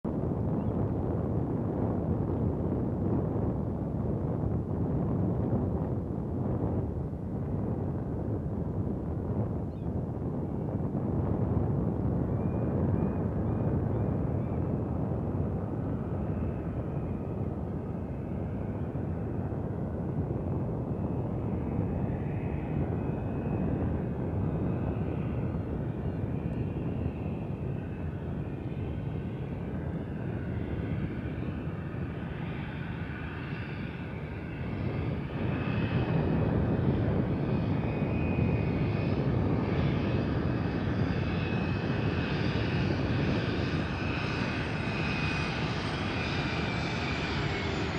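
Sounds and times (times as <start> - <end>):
floatplane engine and propeller: 0.0 - 47.9.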